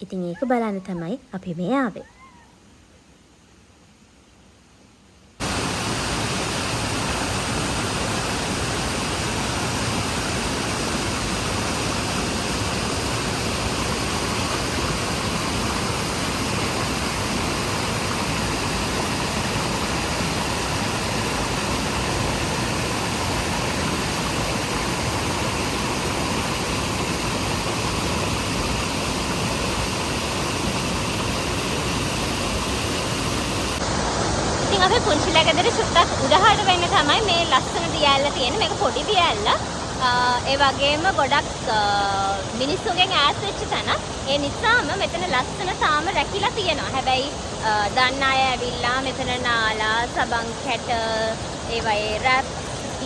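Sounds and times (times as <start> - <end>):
waterfall rushing: 5.4 - 53.0.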